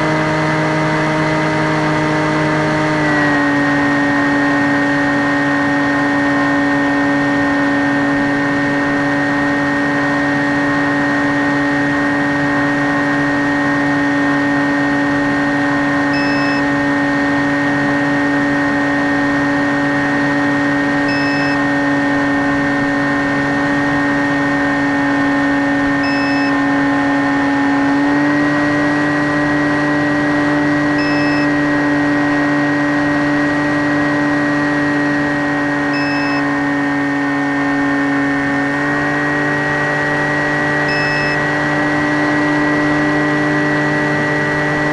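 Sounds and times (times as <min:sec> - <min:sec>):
electric motor and propeller whine: 0:00.0 - 0:44.9.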